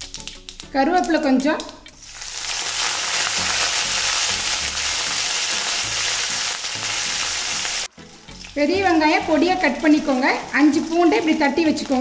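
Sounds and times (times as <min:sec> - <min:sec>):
leaves sizzling in hot oil: 0:02.0 - 0:12.0.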